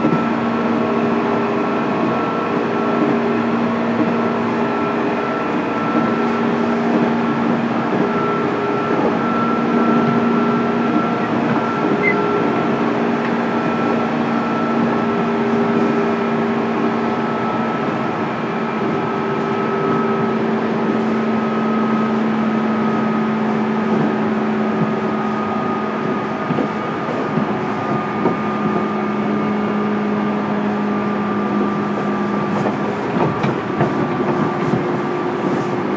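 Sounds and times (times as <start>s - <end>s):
train motor whine: 0.0s - 35.9s
wheels rumbling on rail: 0.0s - 35.9s.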